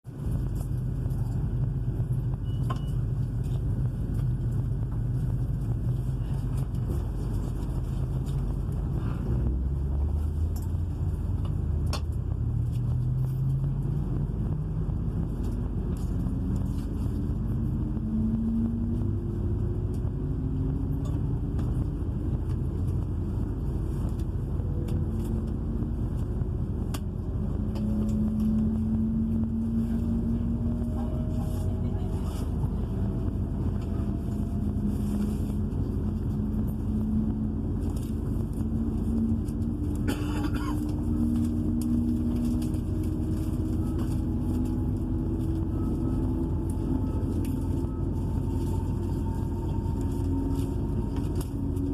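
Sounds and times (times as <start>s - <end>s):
train diesel engine rumble: 0.1s - 51.9s.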